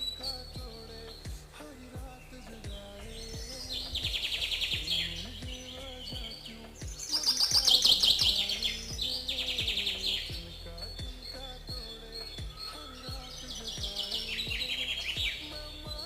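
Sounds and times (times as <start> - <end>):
birds singing in trills: 0.0 - 16.0
soft background music: 0.0 - 16.0.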